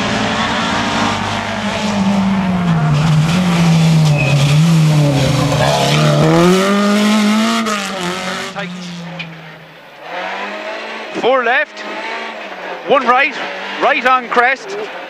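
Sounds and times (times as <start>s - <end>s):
rally car engine revving: 0.0s - 15.0s
road and tyre noise: 0.0s - 15.0s.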